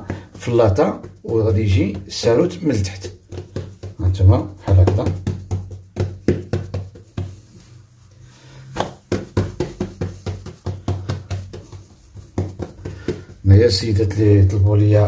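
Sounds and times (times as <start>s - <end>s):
hands patting dough: 0.0s - 15.0s.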